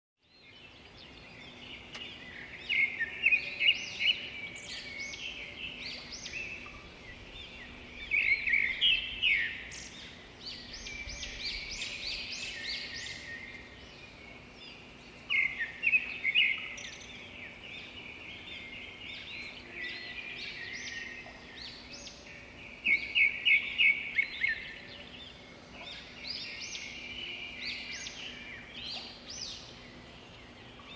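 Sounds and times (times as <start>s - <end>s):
robin singing: 0.2s - 30.9s.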